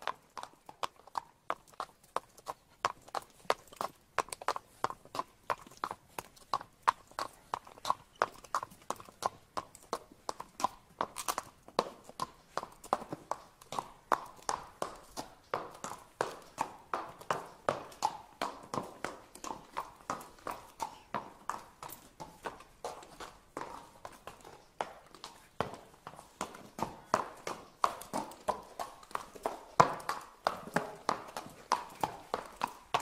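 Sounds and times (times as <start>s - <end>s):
horse hooves on hard ground: 0.0s - 33.0s.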